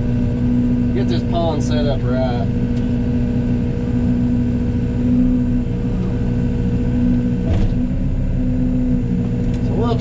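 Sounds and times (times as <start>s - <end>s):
excavator diesel engine humming: 0.0s - 10.0s.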